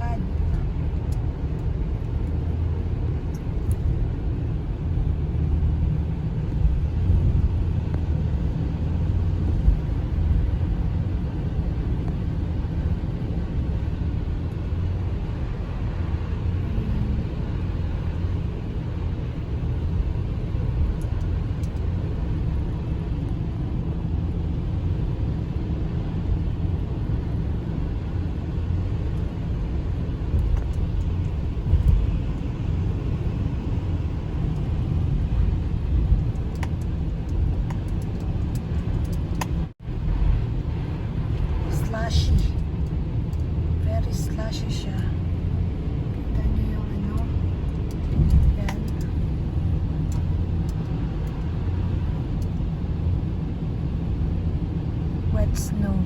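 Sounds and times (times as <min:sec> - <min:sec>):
car driving on wet road: 0:00.0 - 0:56.0.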